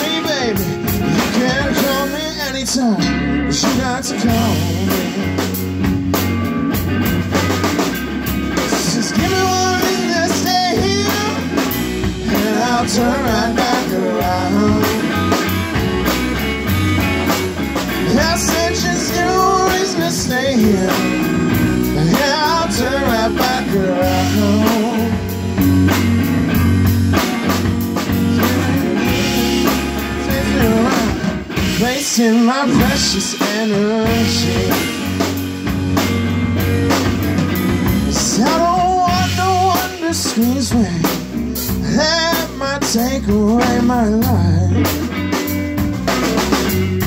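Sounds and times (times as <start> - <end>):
bending lead guitar notes: 0.0 - 47.0
blues-rock band playing: 0.0 - 47.0.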